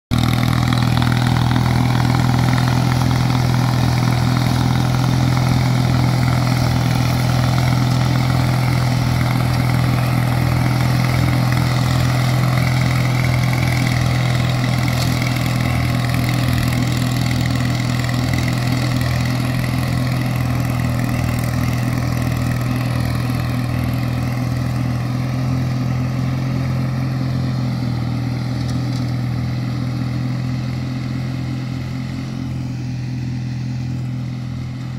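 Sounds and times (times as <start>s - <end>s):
garden tractor engine mowing: 0.1s - 34.9s.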